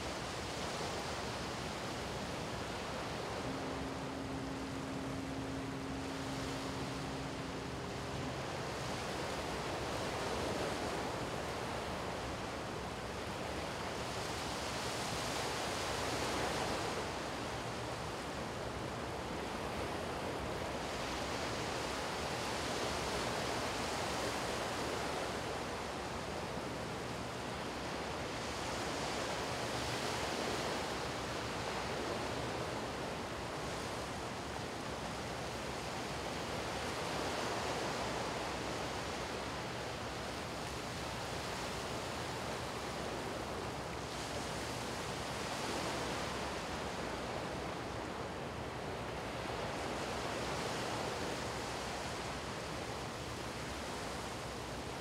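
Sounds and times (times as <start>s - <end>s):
waves washing up on beach: 0.0s - 55.0s.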